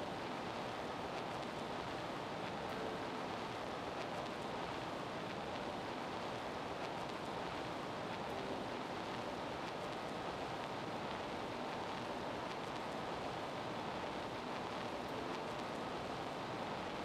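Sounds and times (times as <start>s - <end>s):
faint ticks: 2.4s - 17.0s.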